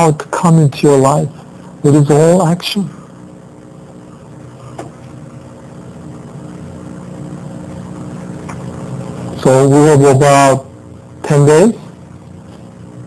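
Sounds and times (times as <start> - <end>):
low droning hum: 0.0 - 13.0.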